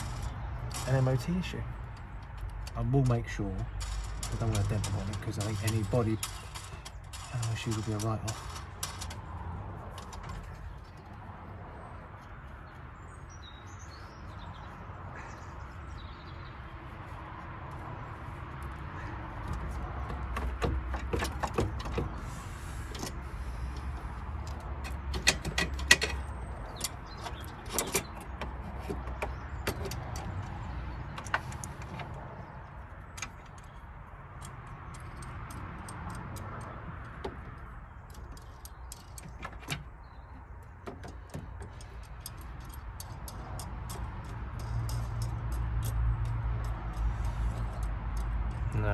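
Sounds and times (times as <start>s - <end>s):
metallic clicks and clinks: 0.0s - 11.2s, 19.4s - 48.9s.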